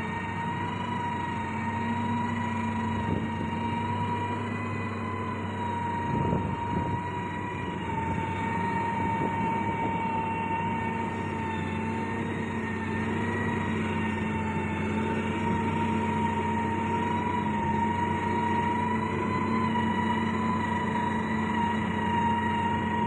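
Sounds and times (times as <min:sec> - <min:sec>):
diesel engines of heavy machinery: 0:00.0 - 0:23.0.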